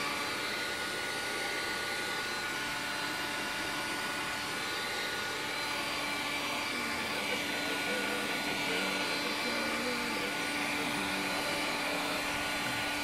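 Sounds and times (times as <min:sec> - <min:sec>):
heat gun blowing air: 0:00.0 - 0:13.0.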